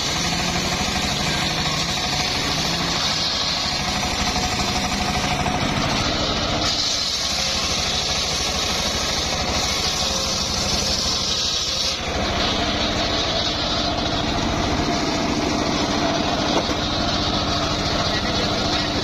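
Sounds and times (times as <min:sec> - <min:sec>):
sawmill engine throbbing: 0:00.0 - 0:19.0.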